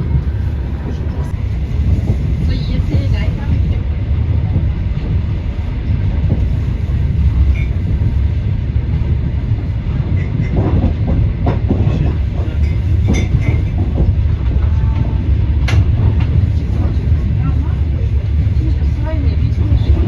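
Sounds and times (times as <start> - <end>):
moving vehicle rumble: 0.0 - 20.0.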